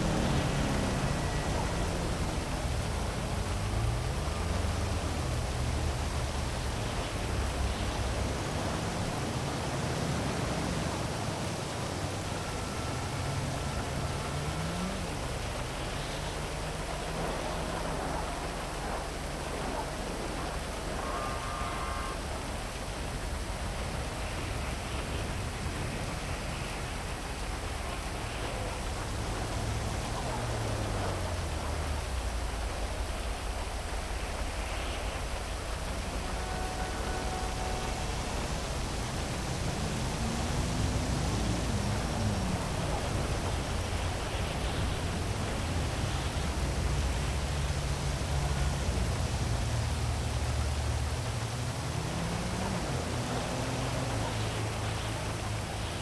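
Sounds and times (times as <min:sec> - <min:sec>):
heavy rain falling: 0:00.0 - 0:56.0
low hum of passing traffic: 0:00.0 - 0:56.0.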